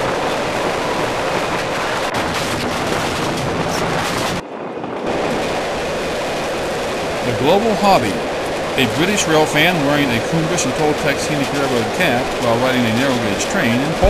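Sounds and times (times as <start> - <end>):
train knocks and rattles: 0.0 - 4.5, 6.4 - 14.0
train wheels running on rails: 0.0 - 14.0.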